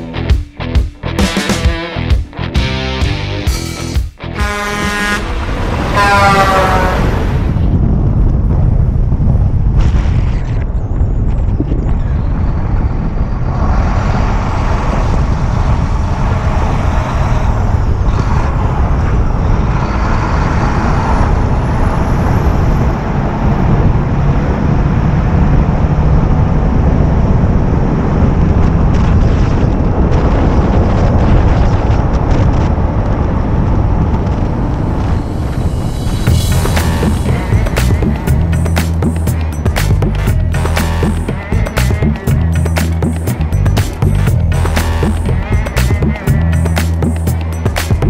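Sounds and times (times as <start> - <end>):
truck rumbling at highway speed: 0.0 - 48.0.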